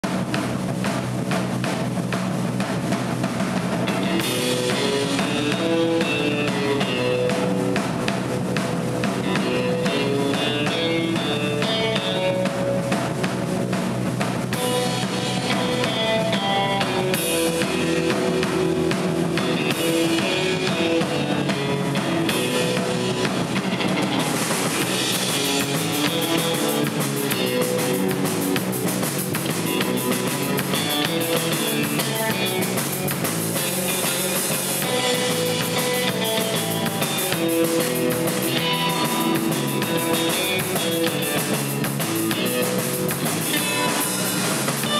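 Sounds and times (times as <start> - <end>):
bass guitar: 0.0 - 44.9
drum kit steady beat: 0.0 - 44.9
electric guitar melody: 3.3 - 44.9.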